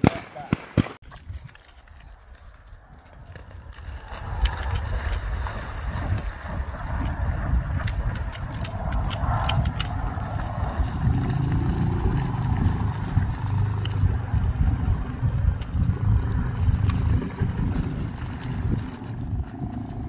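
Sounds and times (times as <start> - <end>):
wind buffeting microphone: 1.0 - 20.0.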